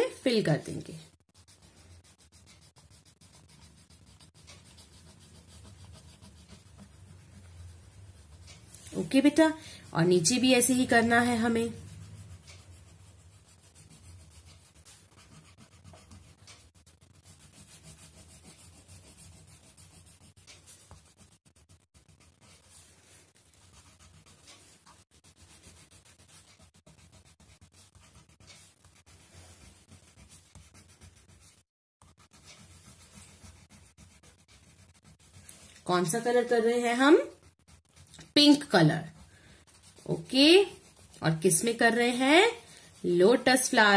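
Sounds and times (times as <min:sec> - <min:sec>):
crayon scratching on paper: 0:00.0 - 0:43.9.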